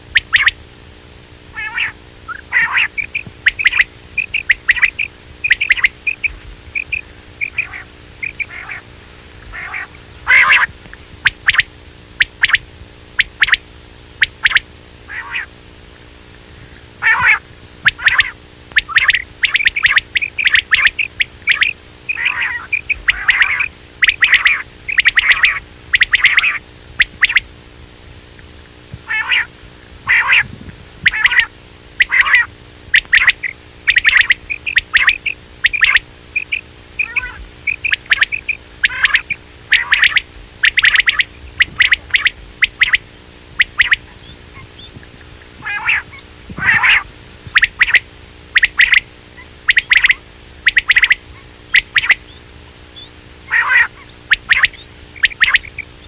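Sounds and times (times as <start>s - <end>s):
quail calls: 0.0s - 0.6s, 1.5s - 13.6s, 14.2s - 15.6s, 16.6s - 27.5s, 29.0s - 56.0s
faint steady hum: 0.0s - 56.0s.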